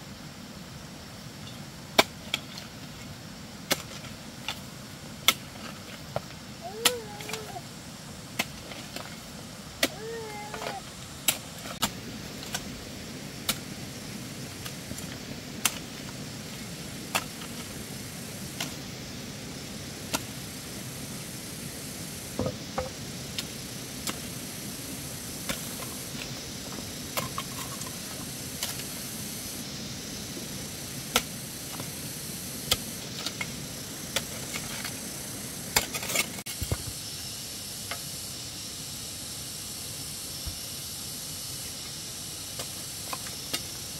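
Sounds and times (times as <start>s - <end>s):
steady background hiss: 0.0s - 43.9s.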